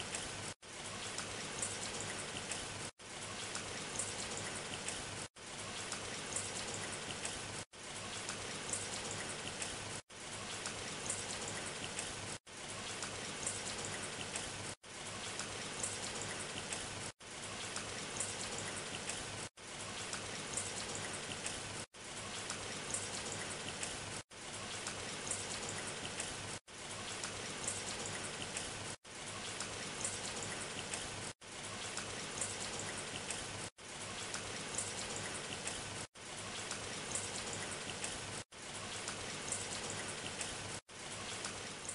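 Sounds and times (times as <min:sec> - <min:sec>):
water drops pattering: 0:00.0 - 0:41.9.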